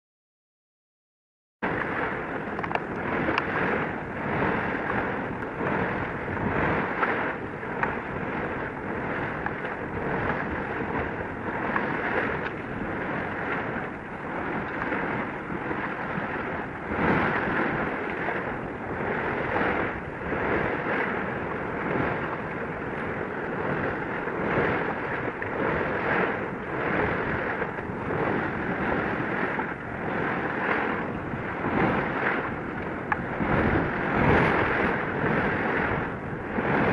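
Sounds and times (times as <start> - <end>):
choppy sea waves: 1.6 - 36.9
wind on microphone: 1.6 - 36.9.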